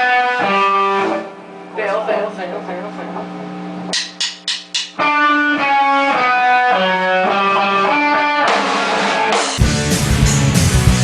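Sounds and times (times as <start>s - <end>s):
electric guitar notes: 0.0s - 3.9s, 5.0s - 11.0s.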